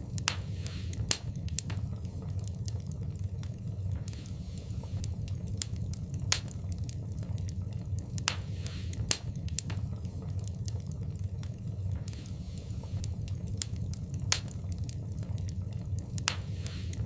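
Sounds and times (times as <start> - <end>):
fire popping and snapping: 0.0 - 17.0
low fire rumble: 0.0 - 17.0.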